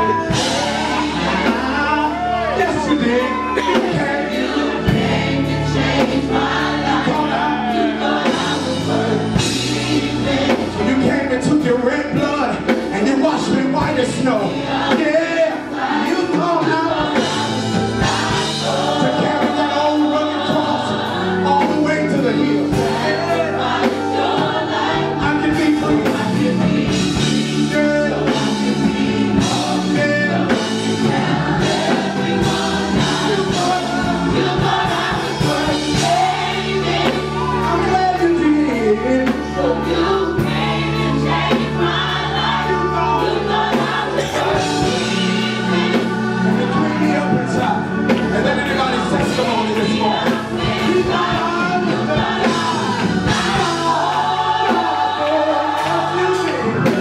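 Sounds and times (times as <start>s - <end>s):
bass line: 0.0s - 57.0s
choir singing gospel: 0.0s - 57.0s
drum kit beating: 0.0s - 57.0s.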